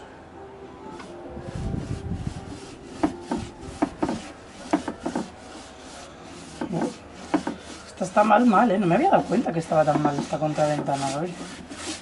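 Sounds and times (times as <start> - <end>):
hand scraping wooden shutter: 0.9 - 12.0.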